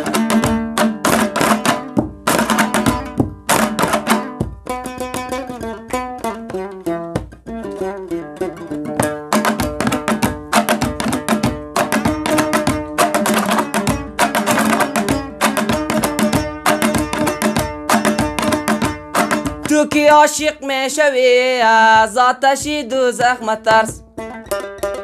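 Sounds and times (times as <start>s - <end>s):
long-necked lute playing: 0.0s - 22.3s, 22.9s - 25.0s.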